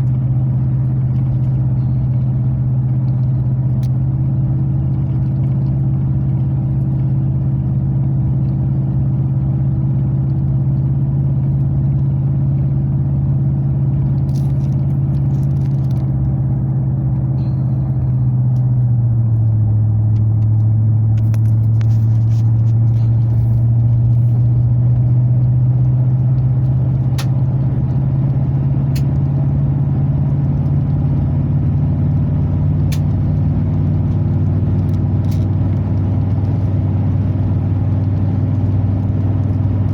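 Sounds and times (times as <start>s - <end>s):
truck engine droning inside cab: 0.0s - 39.9s.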